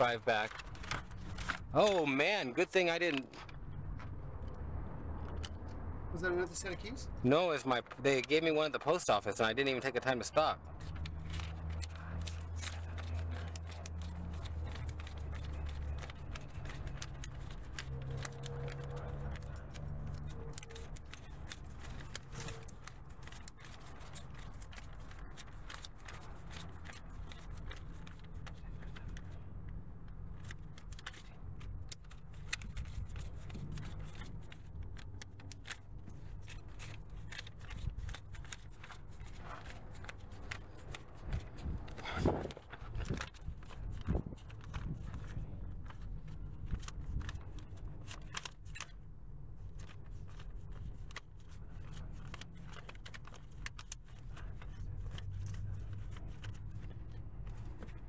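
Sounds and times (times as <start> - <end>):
paper rustling: 0.0 - 3.6, 7.5 - 58.0
small clicks and scrapes: 9.7 - 49.0, 49.6 - 58.0.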